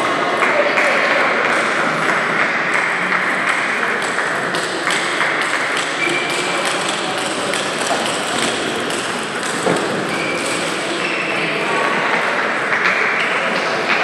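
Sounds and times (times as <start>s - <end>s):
noisy background: 0.0s - 14.0s
table tennis balls ticking: 0.8s - 14.0s.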